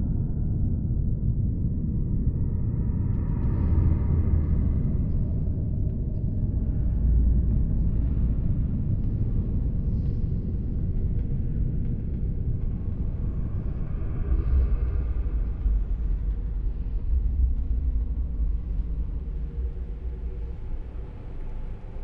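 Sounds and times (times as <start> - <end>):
deep low rumble: 1.8 - 22.0.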